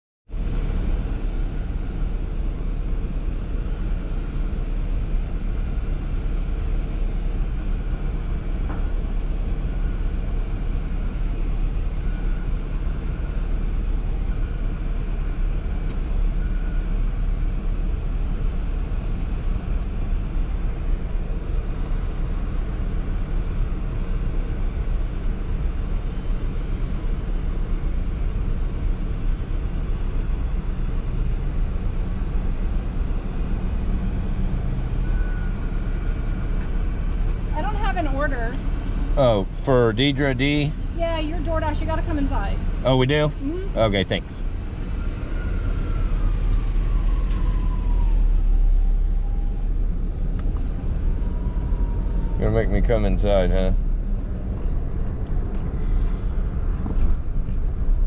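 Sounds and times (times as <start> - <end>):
car engine idling in cabin: 0.3 - 58.0.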